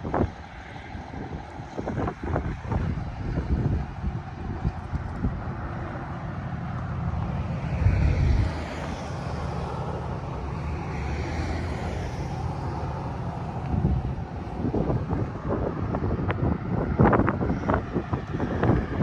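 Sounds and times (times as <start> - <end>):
steady low rumble: 0.0 - 19.0
wind buffeting microphone: 0.0 - 19.0.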